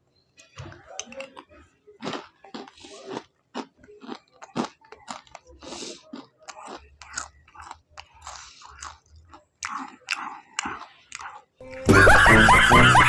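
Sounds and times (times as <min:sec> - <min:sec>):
chewing crunchy food: 0:00.8 - 0:11.6.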